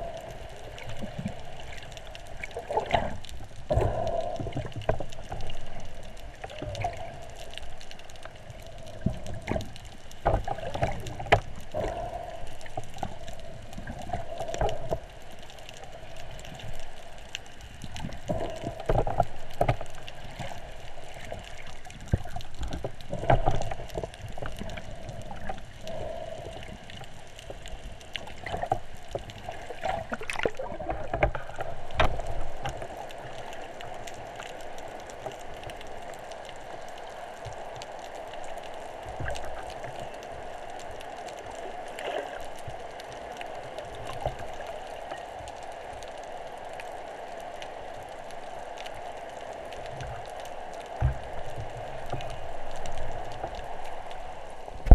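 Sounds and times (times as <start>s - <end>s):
underwater water movement: 0.0s - 54.9s.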